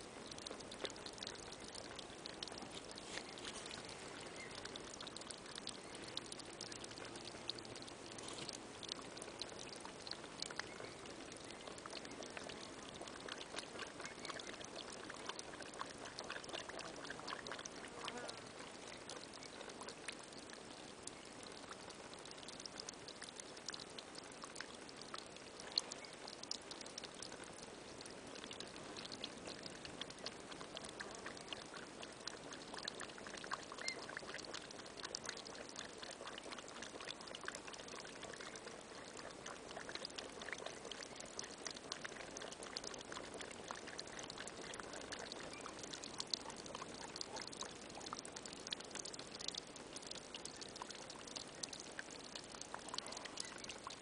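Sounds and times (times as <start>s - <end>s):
water trickling and splashing on ground: 0.0s - 54.0s.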